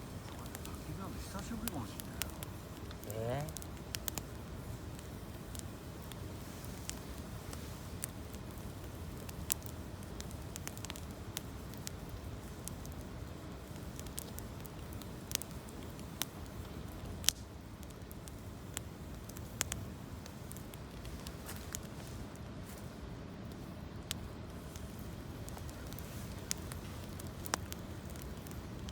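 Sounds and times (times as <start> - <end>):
campfire crackling and popping: 0.0 - 28.9
fire low rush: 0.0 - 28.9.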